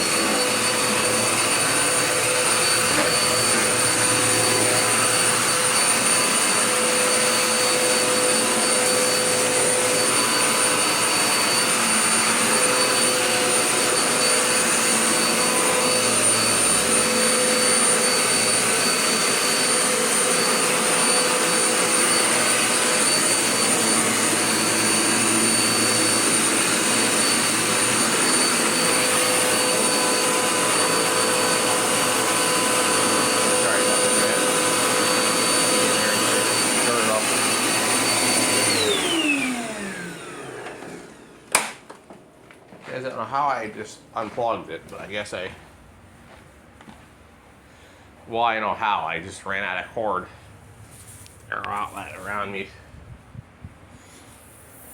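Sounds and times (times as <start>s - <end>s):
vacuum cleaner running: 0.0s - 47.0s, 47.7s - 54.9s.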